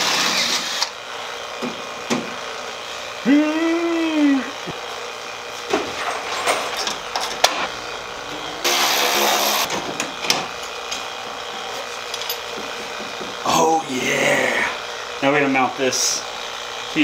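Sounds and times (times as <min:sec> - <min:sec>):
power drill running: 0:00.0 - 0:05.7, 0:07.0 - 0:13.5, 0:14.4 - 0:17.0.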